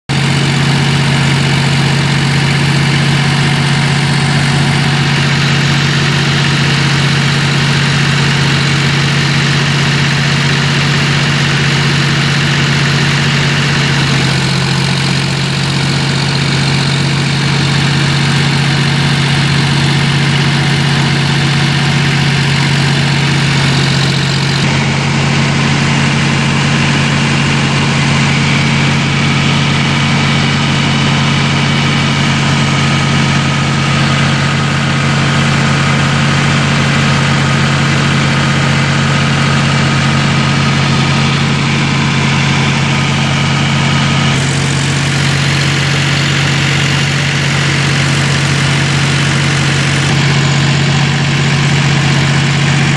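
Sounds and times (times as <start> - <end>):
tractor diesel engine running: 0.0 - 52.9
thresher mechanical whirr: 0.1 - 52.9.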